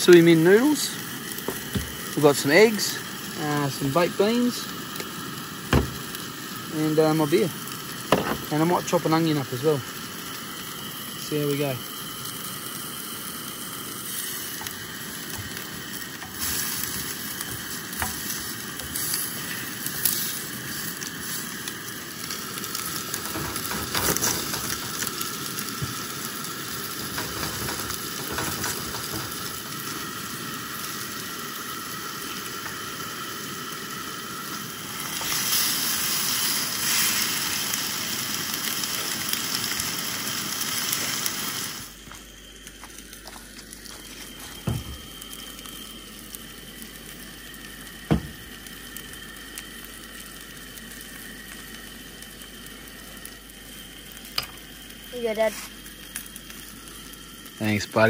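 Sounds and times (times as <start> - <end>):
kettle boiling: 0.0 - 58.0
meat sizzling on a hotplate: 0.0 - 58.0.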